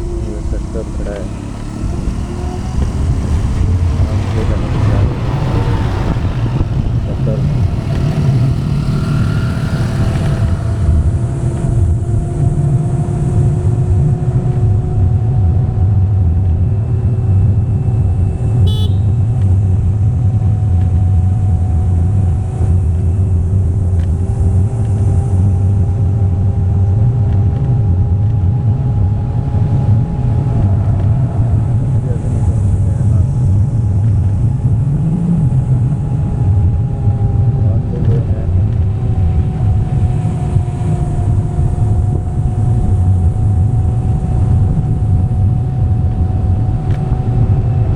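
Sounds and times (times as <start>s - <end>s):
vehicle engine rumbling: 0.0s - 47.9s.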